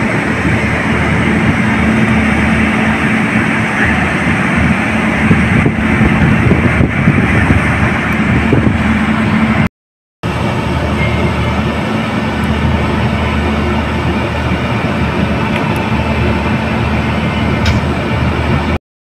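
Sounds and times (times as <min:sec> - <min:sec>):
buffeting noise: 0:00.0 - 0:18.8
train locomotive rumbling: 0:00.0 - 0:18.8.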